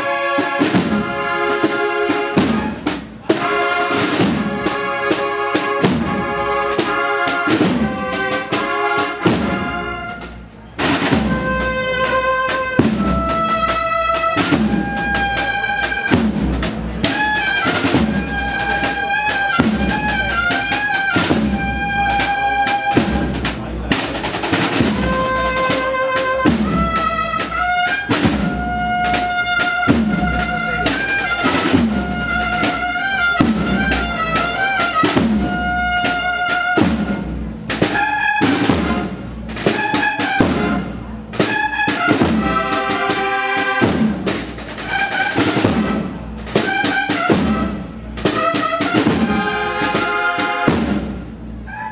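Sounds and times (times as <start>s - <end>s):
bugles playing march melody: 0.0s - 51.4s
steady drum beat: 0.0s - 51.6s.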